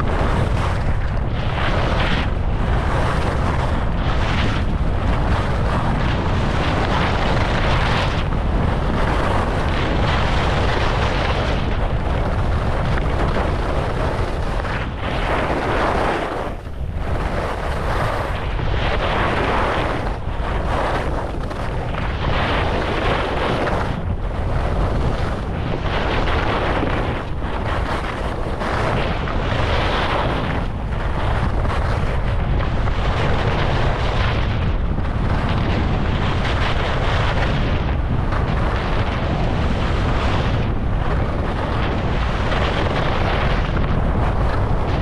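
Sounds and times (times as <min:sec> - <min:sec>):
skis scraping on snow: 0:00.0 - 0:45.0
wind buffeting microphone: 0:00.0 - 0:45.0.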